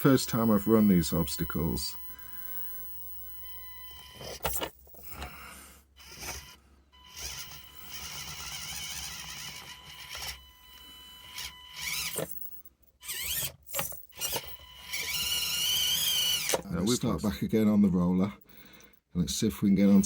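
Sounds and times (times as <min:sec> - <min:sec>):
small electric motor whining: 0:00.0 - 0:16.9.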